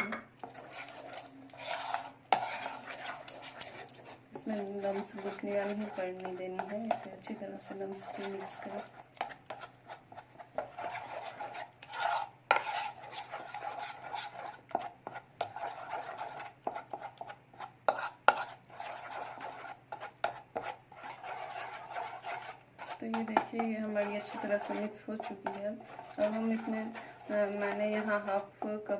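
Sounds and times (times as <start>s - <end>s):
utensil stirring batter in a bowl: 0.3s - 28.9s.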